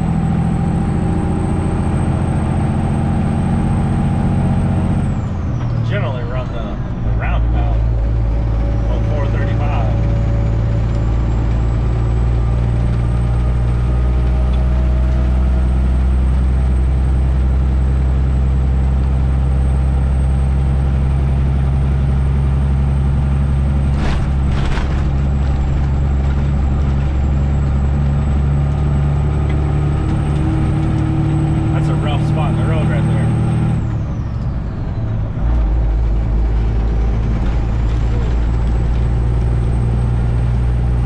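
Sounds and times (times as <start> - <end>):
truck engine running: 0.0 - 41.0.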